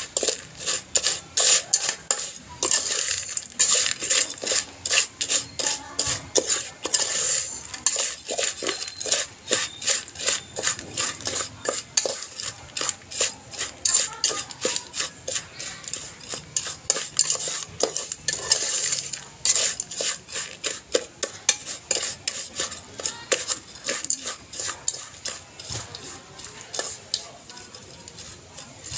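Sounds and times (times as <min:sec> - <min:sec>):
spoon stirring kernels in pot: 0:00.0 - 0:28.9.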